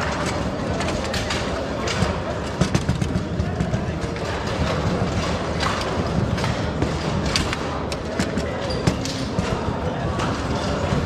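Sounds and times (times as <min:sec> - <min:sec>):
steady background noise: 0:00.0 - 0:11.0
ball knocking table football figures: 0:00.7 - 0:11.0.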